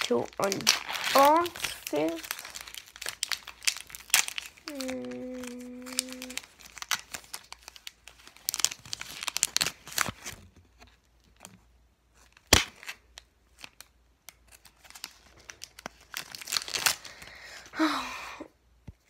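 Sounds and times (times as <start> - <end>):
foil card pack crinkling and tearing: 0.0 - 11.5, 12.2 - 17.7.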